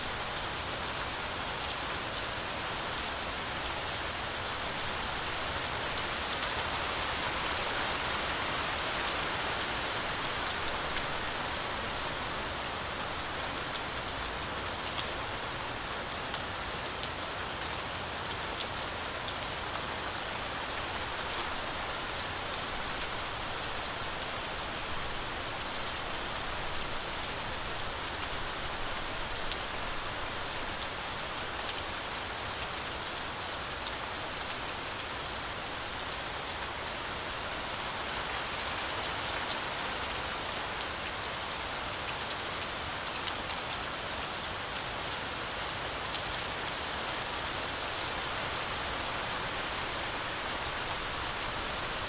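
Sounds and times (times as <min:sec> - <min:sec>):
heavy rain through forest canopy: 0:00.0 - 0:52.0.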